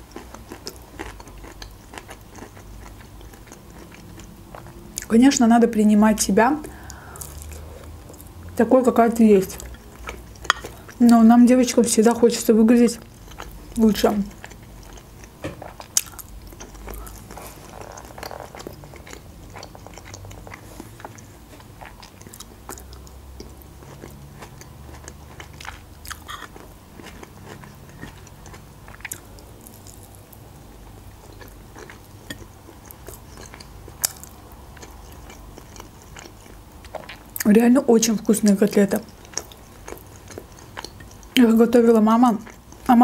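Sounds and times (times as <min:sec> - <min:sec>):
person chewing: 0:00.0 - 0:05.1, 0:06.6 - 0:08.4, 0:09.5 - 0:11.2, 0:13.0 - 0:37.5, 0:38.6 - 0:41.5, 0:42.4 - 0:43.0.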